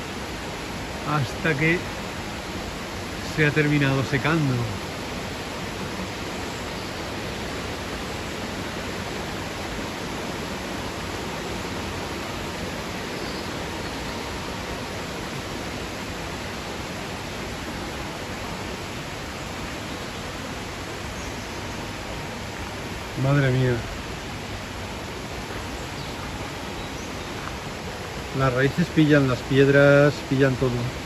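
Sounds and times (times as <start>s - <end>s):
mountain stream rushing: 0.0s - 31.0s.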